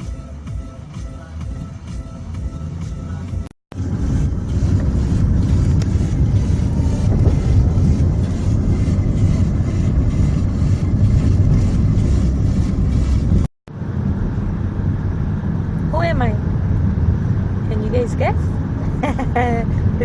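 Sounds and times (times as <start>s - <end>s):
wind and road noise rumble: 1.2s - 20.0s.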